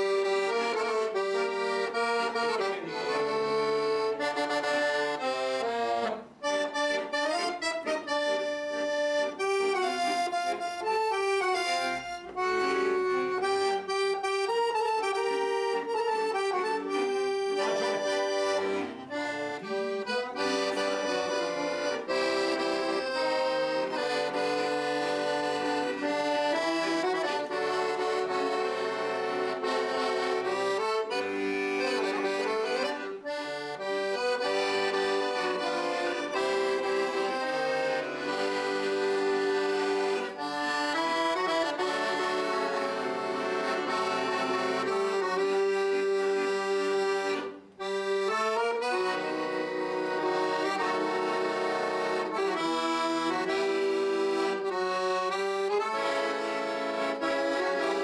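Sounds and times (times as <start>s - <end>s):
two accordions playing a duet: 0.0s - 58.0s.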